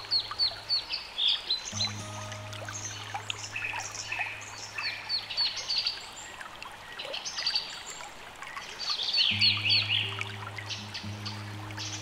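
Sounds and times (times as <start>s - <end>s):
songbirds chirping: 0.0s - 12.0s
water trickling: 0.0s - 12.0s.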